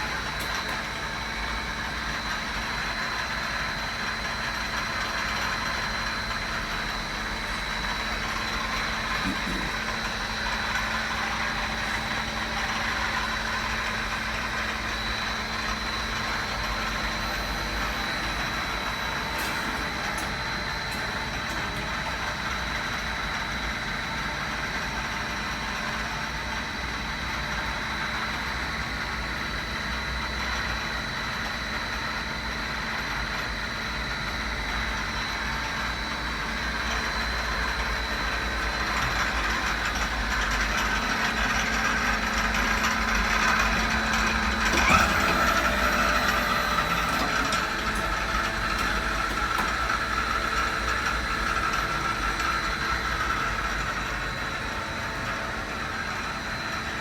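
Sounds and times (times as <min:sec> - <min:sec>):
lathe machine hum: 0:00.0 - 0:57.0.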